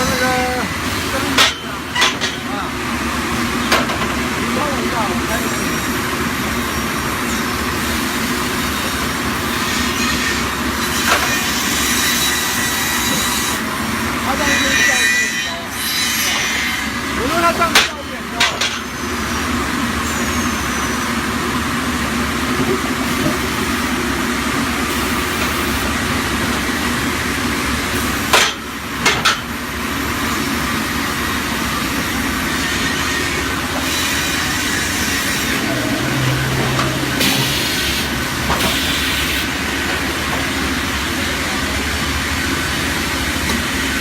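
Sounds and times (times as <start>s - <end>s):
log saw machine running: 0.0s - 15.2s, 15.8s - 44.0s.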